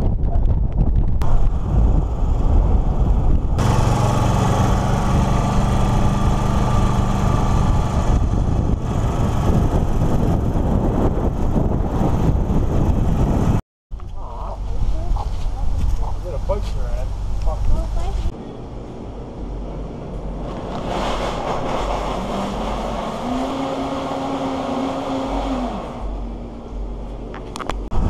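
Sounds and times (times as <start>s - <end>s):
road and wind noise: 0.0s - 28.0s
vehicle engine drone: 1.2s - 14.8s, 15.5s - 28.0s.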